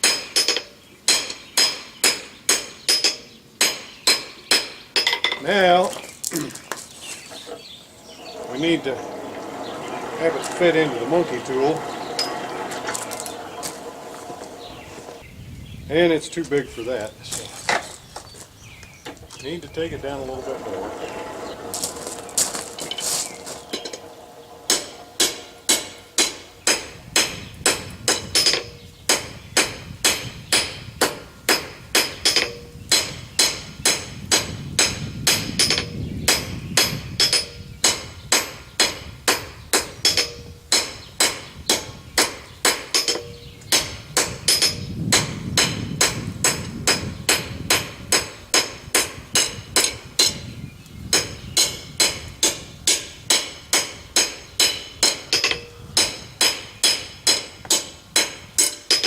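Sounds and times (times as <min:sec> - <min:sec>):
hammer striking steel on anvil: 0:00.0 - 0:05.4, 0:08.0 - 0:15.2, 0:20.0 - 0:50.4, 0:51.1 - 0:59.0.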